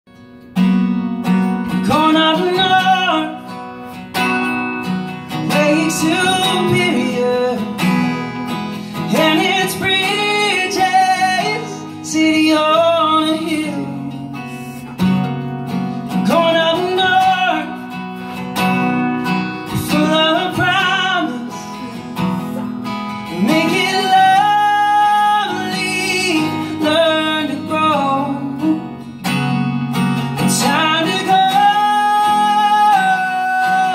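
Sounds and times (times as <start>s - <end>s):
acoustic guitar strumming: 0.1s - 33.9s
man singing: 1.6s - 33.9s.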